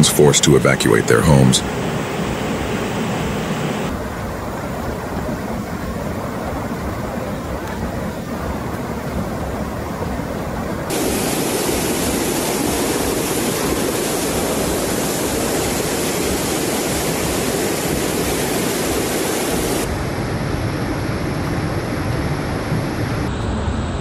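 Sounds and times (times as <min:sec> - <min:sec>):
floodwater rushing: 0:00.0 - 0:23.1.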